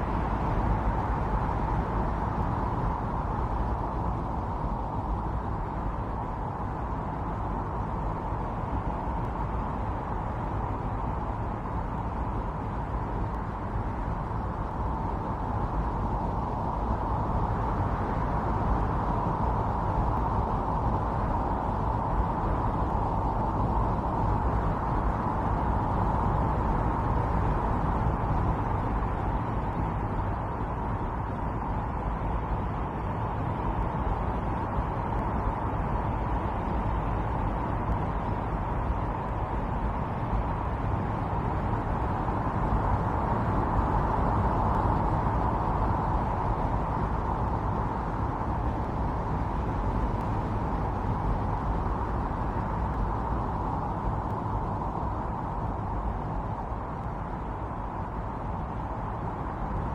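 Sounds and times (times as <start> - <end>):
strong snowstorm wind: 0.0 - 59.9.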